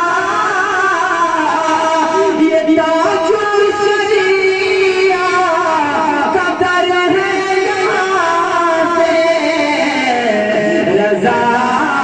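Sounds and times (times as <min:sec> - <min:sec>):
man singing devotional poem: 0:00.0 - 0:12.0.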